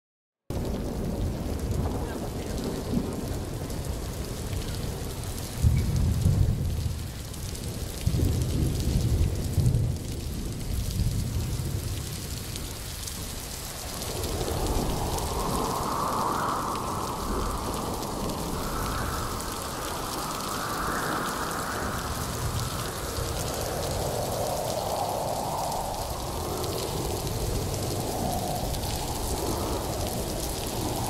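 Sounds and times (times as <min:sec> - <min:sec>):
low rumble of thunder: 0:00.5 - 0:31.0
rain hiss: 0:00.5 - 0:31.0.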